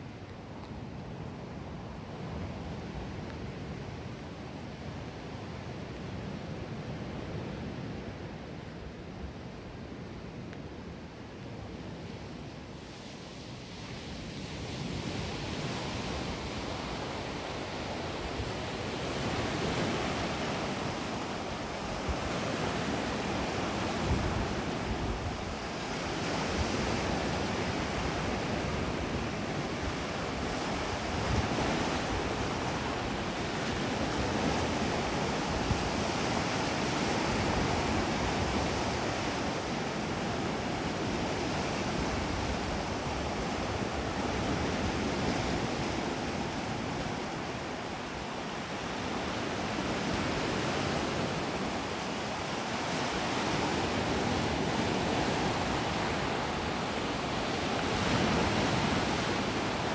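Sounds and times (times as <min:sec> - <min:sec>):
wind gusting across microphone: 0:01.2 - 0:59.9
sea waves washing onto beach: 0:09.9 - 0:59.9.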